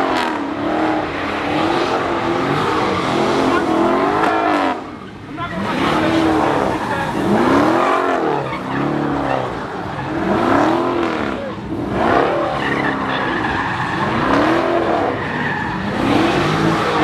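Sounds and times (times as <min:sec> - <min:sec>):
car engine revving: 0:00.0 - 0:17.0
tyres squealing on pavement: 0:00.6 - 0:17.0.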